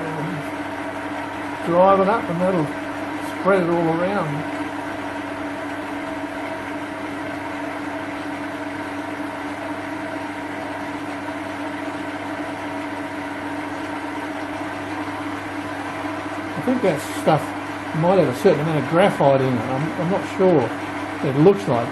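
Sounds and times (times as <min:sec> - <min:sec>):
lathe motor and gear hum: 0:00.0 - 0:21.9.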